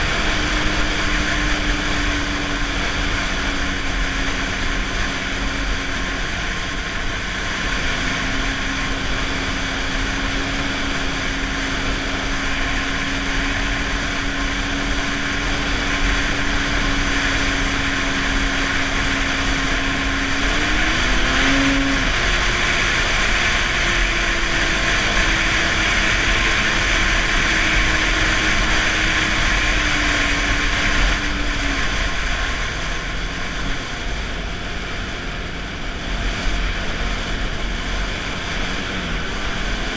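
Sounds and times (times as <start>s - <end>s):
constant rushing noise: 0.0s - 39.9s
snowmobile engine running: 0.0s - 39.9s.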